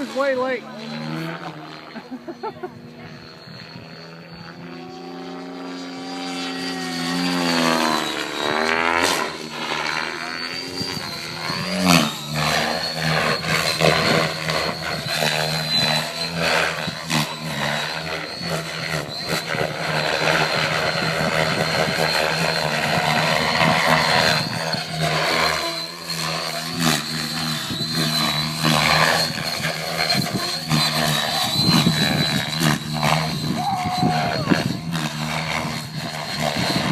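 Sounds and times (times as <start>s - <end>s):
helicopter motor whine: 0.0s - 36.9s
rotor buzz: 0.0s - 36.9s.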